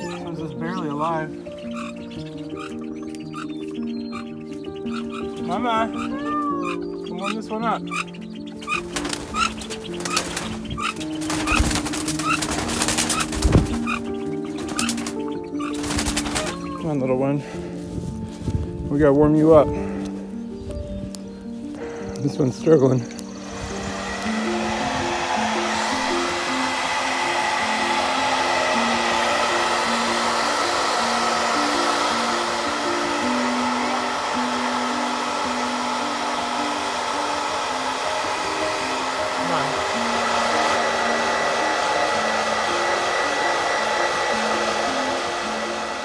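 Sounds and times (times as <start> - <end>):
hair dryer running: 0.0 - 18.6, 22.6 - 46.0
soft background melody: 0.0 - 46.0.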